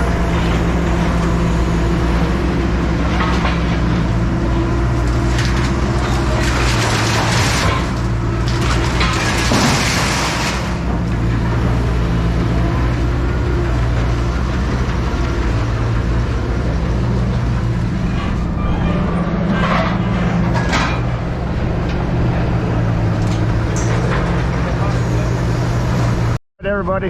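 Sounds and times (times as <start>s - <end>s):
large engine running: 0.0s - 26.4s.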